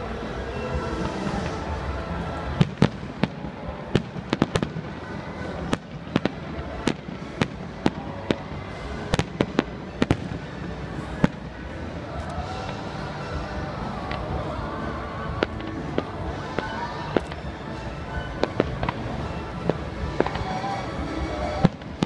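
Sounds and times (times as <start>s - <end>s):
steady background din: 0.0s - 22.0s
fireworks bursting with sharp bangs: 0.4s - 22.0s.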